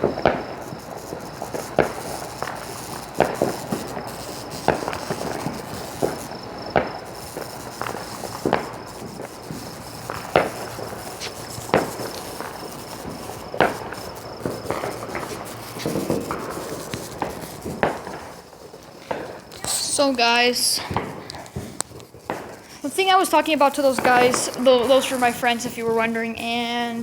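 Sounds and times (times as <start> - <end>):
fireworks popping: 0.0 - 27.0
steady background hiss: 0.0 - 27.0.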